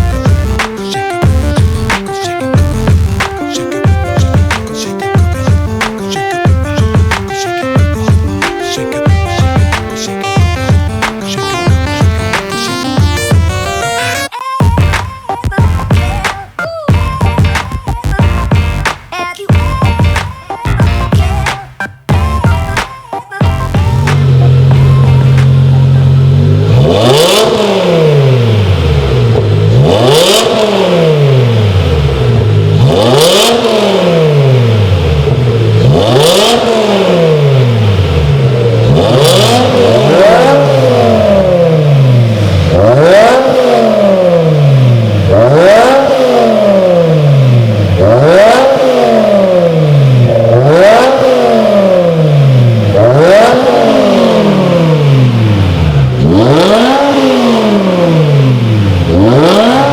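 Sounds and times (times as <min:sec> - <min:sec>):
car engine revving: 0:00.0 - 0:14.3, 0:23.5 - 0:59.9.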